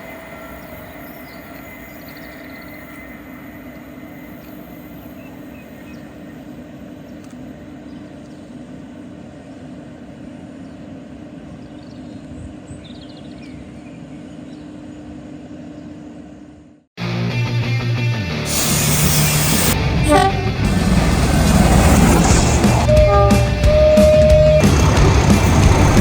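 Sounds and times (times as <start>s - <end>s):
train running with drone: 0.0s - 16.6s, 18.3s - 26.0s.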